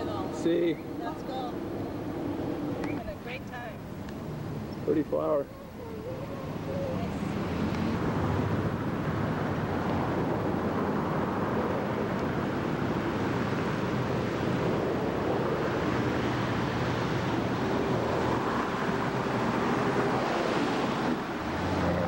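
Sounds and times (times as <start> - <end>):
passing street traffic: 0.0 - 22.0.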